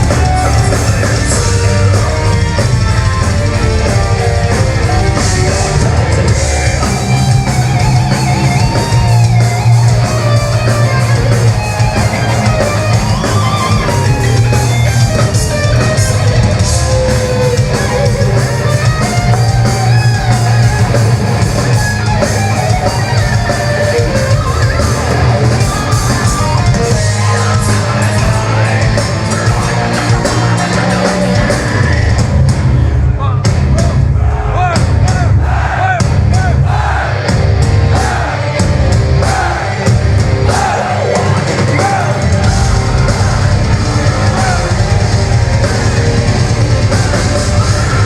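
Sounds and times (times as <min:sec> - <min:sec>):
wavering lead guitar line: 0:00.0 - 0:32.7, 0:37.2 - 0:48.0
distorted electric guitars: 0:00.0 - 0:48.0
drum kit: 0:00.0 - 0:48.0
heavy bass: 0:00.0 - 0:48.0.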